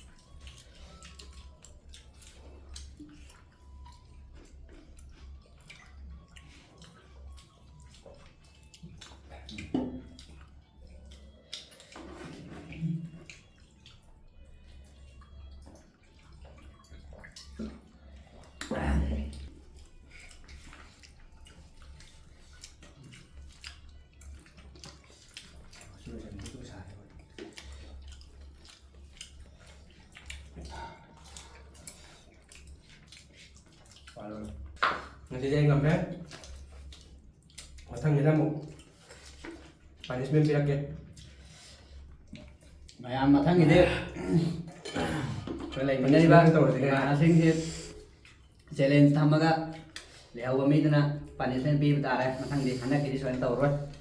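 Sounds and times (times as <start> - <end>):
eating sounds: 0.0 - 54.0
mouth chewing food: 0.0 - 54.0.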